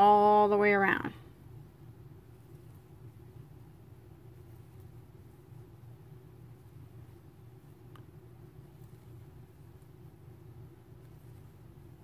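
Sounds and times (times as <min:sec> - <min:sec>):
background hiss: 0:00.0 - 0:12.0
faint low hum: 0:00.0 - 0:12.0.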